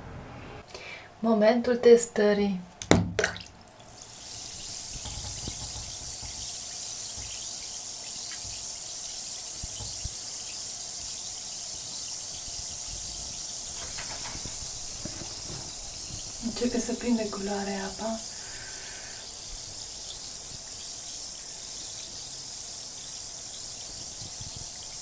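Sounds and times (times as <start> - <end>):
bath bomb fizzing in water: 3.2 - 25.0.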